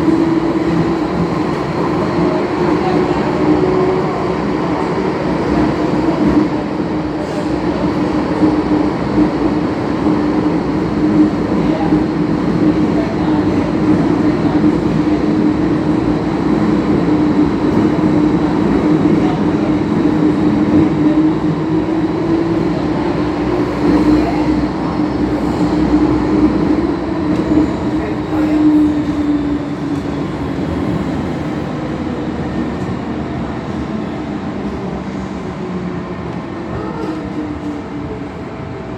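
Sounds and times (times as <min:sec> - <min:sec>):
train rumbling through tunnel: 0:00.0 - 0:38.9.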